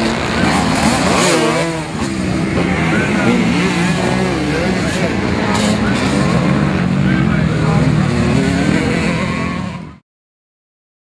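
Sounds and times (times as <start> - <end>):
motorcycle engines running: 0.0 - 10.0
people's voices: 0.0 - 10.0.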